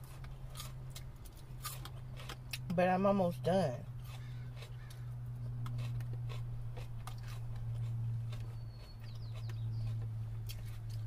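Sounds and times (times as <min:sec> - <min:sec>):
chewing: 0:00.0 - 0:02.7, 0:04.0 - 0:11.0
steady low hum: 0:00.0 - 0:11.0.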